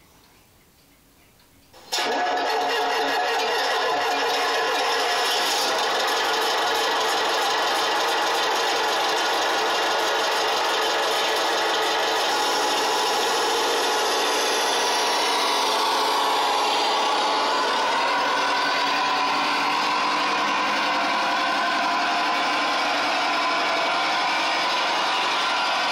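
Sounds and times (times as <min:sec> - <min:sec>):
diesel engine sound through loudspeakers: 0:01.9 - 0:25.9.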